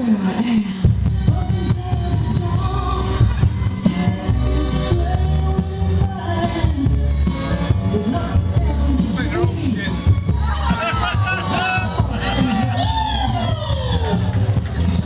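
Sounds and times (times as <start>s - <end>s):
loud recorded song with singer: 0.0s - 15.0s.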